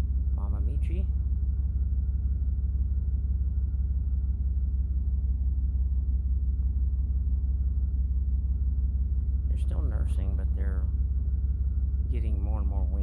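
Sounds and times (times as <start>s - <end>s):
faint high whine: 0.0s - 13.0s
low mechanical rumble: 0.0s - 13.0s.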